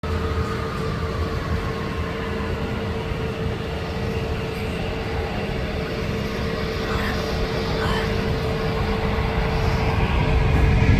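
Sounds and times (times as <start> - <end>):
jet engines running: 0.0 - 10.9.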